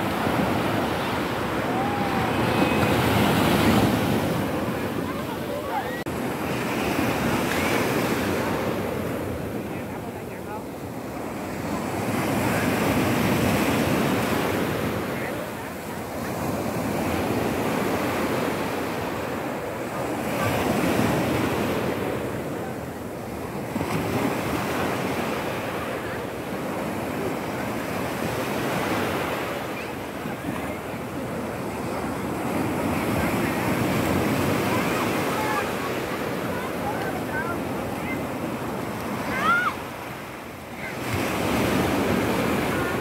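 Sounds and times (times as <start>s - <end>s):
ocean waves breaking on shore: 0.0s - 43.0s.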